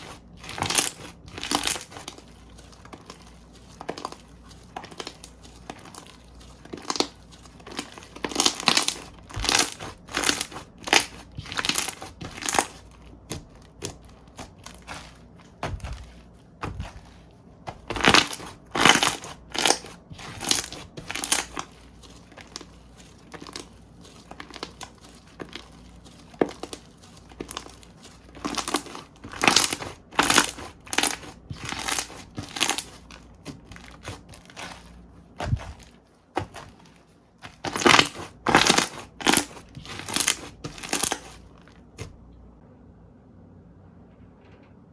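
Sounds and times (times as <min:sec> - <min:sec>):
slime squishing by hand: 0:00.0 - 0:42.3.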